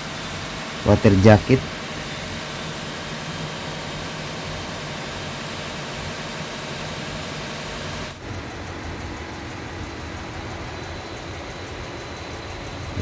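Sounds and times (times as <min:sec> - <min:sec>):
engine room machinery drone: 0:00.0 - 0:13.0.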